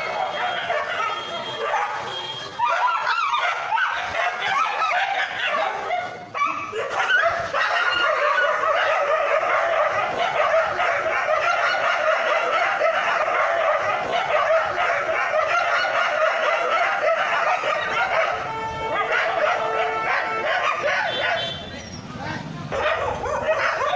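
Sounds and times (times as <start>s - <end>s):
dogs barking and growling: 0.0s - 21.5s, 22.3s - 23.9s.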